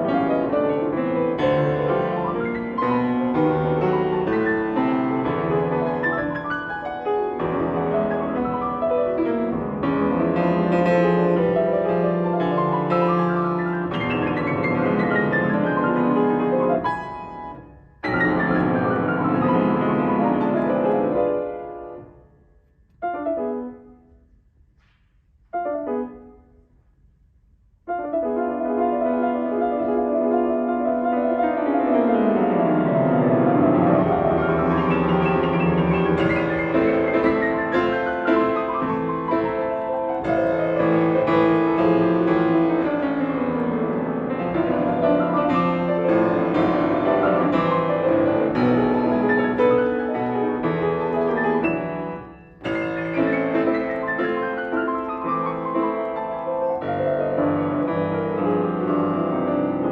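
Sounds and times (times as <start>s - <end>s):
grand piano playing: 0.0s - 24.2s, 25.5s - 26.7s, 27.9s - 59.9s.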